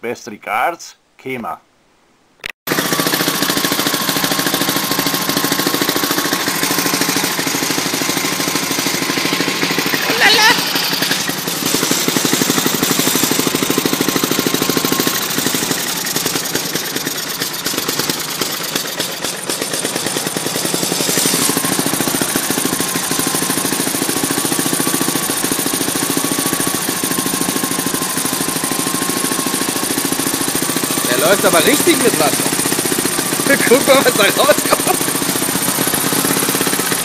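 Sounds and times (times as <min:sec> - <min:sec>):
engine firing sharp knocking beats: 0:02.7 - 0:37.0.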